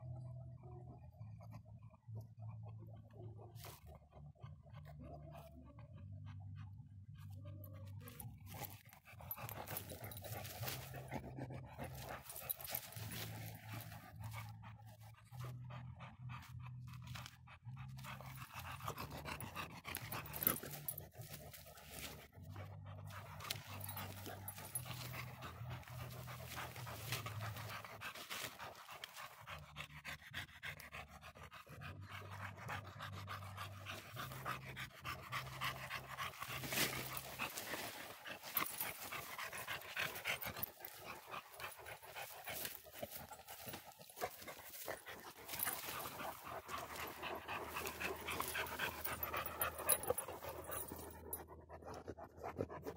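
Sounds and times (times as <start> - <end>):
dog panting: 0.6 - 52.9.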